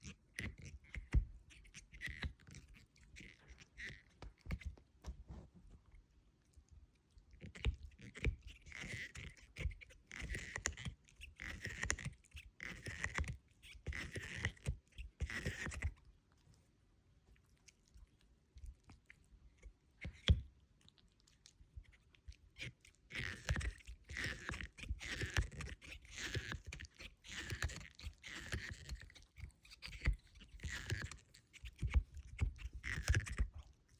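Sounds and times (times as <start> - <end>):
puppy chewing a toy: 0.0 - 33.9.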